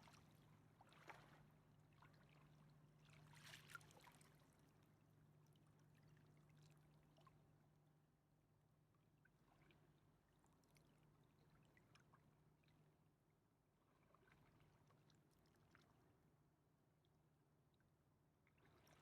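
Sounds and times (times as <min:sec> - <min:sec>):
faint river water trickling: 0:00.0 - 0:19.0.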